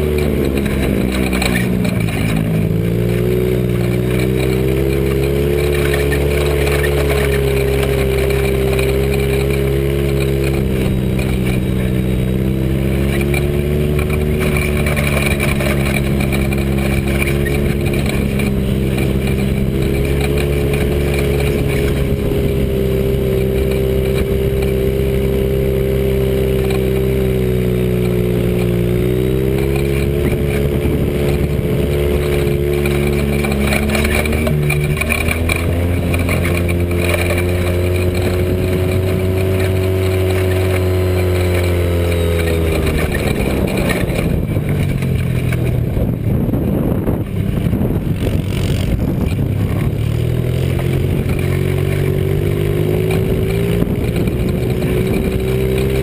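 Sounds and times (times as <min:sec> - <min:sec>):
dune buggy engine running hard: 0:00.0 - 0:56.0.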